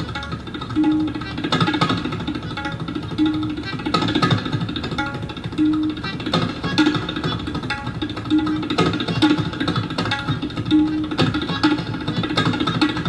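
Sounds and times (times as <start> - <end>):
fast tabla rhythm: 0.0 - 13.0.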